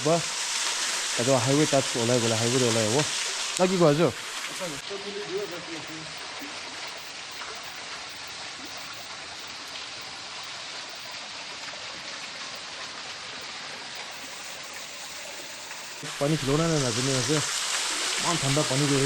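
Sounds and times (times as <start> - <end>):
water rushing in a stream: 0.0 - 19.0.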